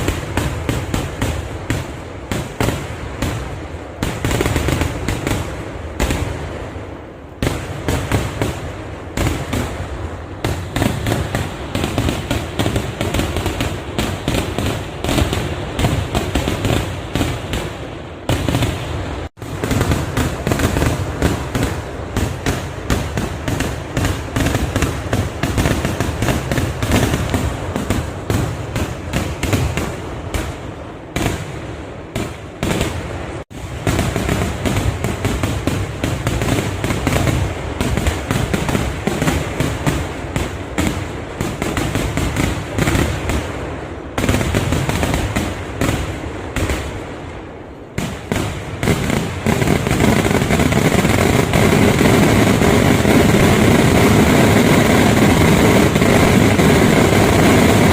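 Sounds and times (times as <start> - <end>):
rapid firework explosions: 0.0 - 57.9.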